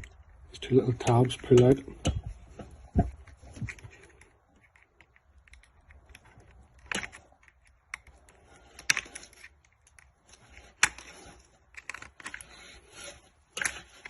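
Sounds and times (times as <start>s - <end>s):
plastic lock parts clicking and rattling: 0.0s - 12.6s, 13.4s - 14.0s.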